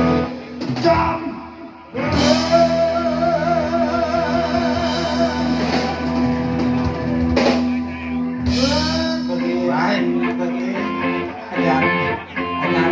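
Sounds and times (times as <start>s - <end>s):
live band playing: 0.0s - 12.9s.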